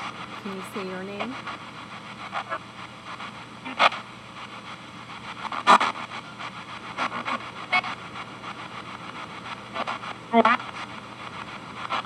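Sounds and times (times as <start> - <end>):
radio static hiss: 0.0 - 12.0
snatches of radio stations: 0.0 - 12.0.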